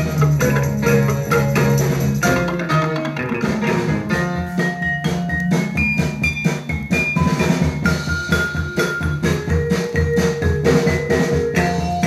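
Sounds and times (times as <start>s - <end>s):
soul music from a record: 0.0s - 12.0s.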